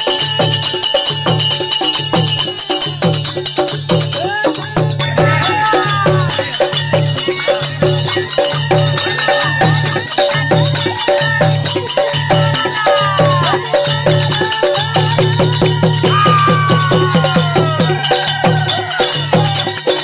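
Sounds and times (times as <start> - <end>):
rattling clattering percussion: 0.0 - 20.0
barrel drum beating: 1.2 - 20.0.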